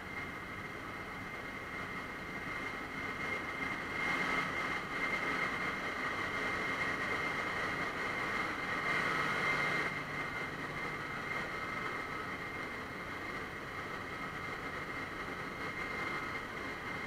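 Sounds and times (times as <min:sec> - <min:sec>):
engine room machinery running: 0:00.0 - 0:17.0
high whine: 0:00.0 - 0:17.0.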